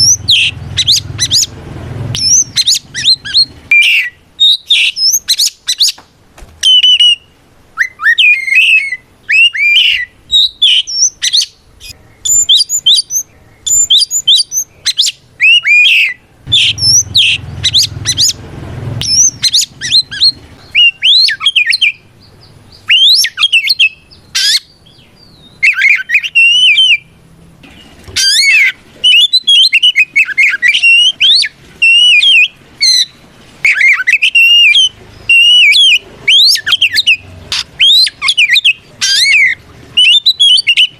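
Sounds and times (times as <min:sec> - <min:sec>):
bird singing whistled phrases: 0:00.0 - 0:01.5, 0:02.1 - 0:06.0, 0:06.6 - 0:18.4, 0:19.0 - 0:22.1, 0:22.7 - 0:27.1, 0:28.2 - 0:40.9.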